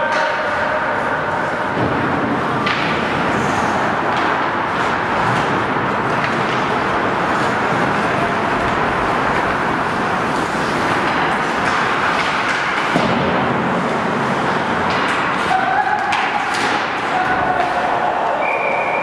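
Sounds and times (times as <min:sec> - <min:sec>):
skates on ice: 0:00.1 - 0:19.0.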